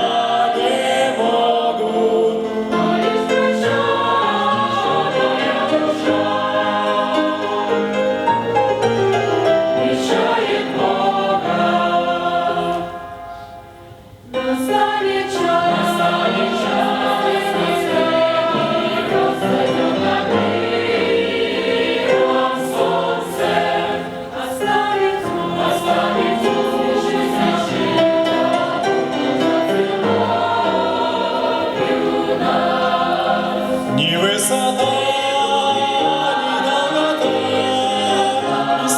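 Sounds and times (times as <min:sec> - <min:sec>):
choir singing held chords: 0:00.0 - 0:38.9.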